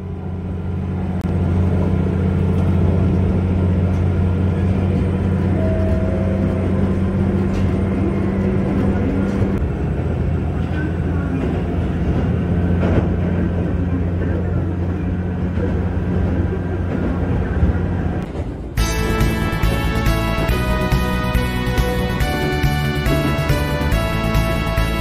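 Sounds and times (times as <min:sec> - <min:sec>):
train engine droning: 0:00.0 - 0:25.0.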